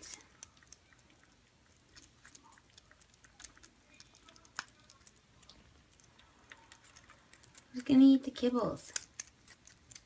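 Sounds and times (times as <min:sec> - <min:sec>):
kittens crunching dry kibble: 0:00.0 - 0:10.0.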